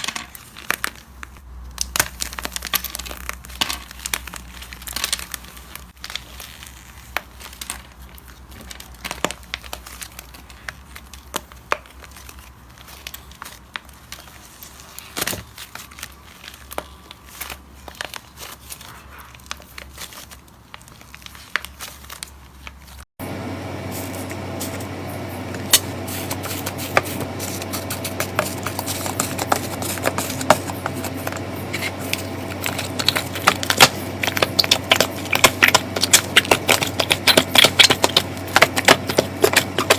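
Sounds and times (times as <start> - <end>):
slime crackling and popping: 0.0 - 22.8, 25.7 - 39.9.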